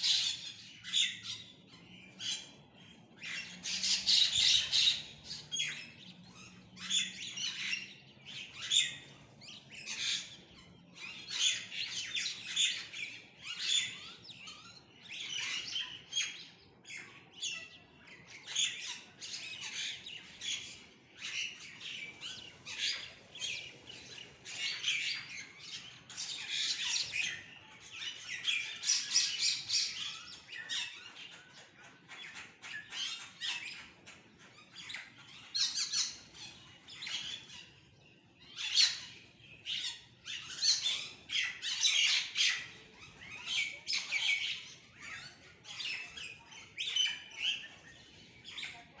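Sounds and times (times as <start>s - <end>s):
birds chirping and calling: 0.0s - 49.0s.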